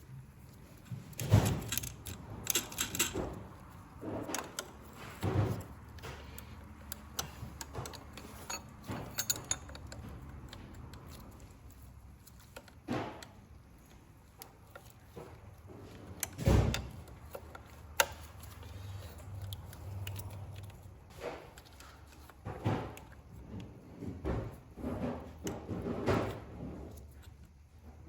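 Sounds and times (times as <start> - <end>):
hand tools clicking and tapping: 0.4 - 27.4.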